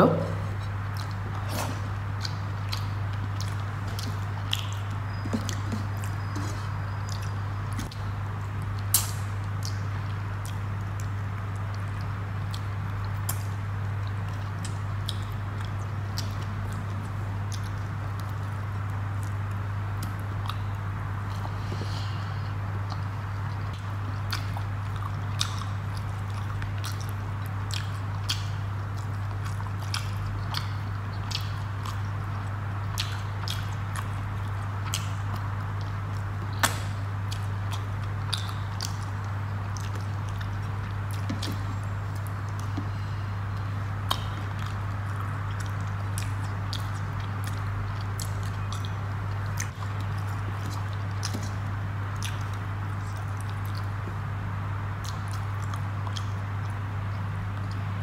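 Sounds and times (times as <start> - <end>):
steady low hum: 0.0 - 58.0
wet chewing and mouth clicks: 0.6 - 22.2, 22.8 - 54.2, 54.9 - 58.0.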